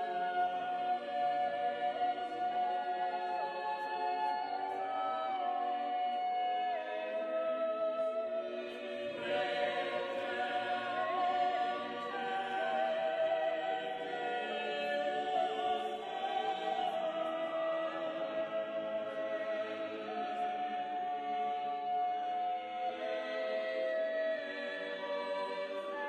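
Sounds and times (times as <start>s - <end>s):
choir-like voices holding notes: 0.0s - 26.0s.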